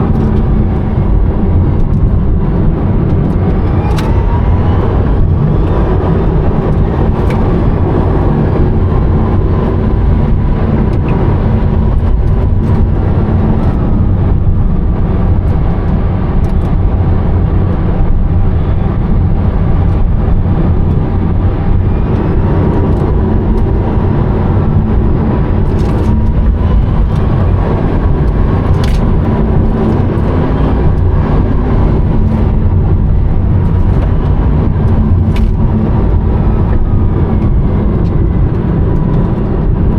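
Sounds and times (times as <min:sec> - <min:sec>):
electric motor whine: 0:00.0 - 0:39.9
tyre and road rumble: 0:00.0 - 0:39.9.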